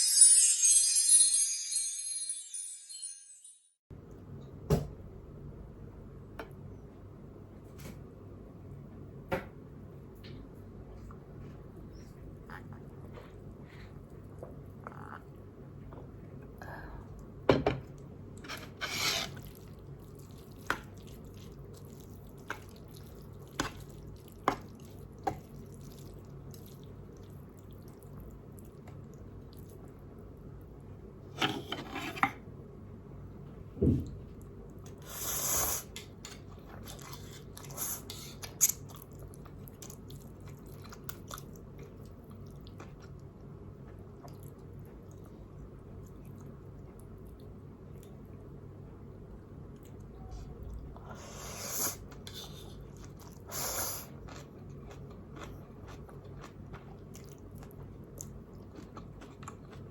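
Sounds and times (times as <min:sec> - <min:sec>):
low steady hum: 0:03.9 - 0:35.2, 0:35.9 - 0:59.9.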